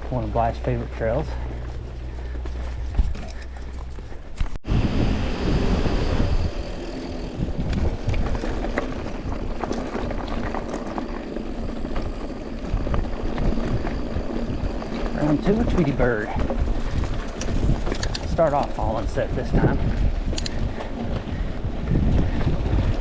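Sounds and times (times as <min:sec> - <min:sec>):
bike clicks and rattles: 0:00.0 - 0:04.6, 0:05.5 - 0:23.0
bike tyre noise on dirt: 0:00.0 - 0:23.0
wind rumble on microphone: 0:00.0 - 0:23.0.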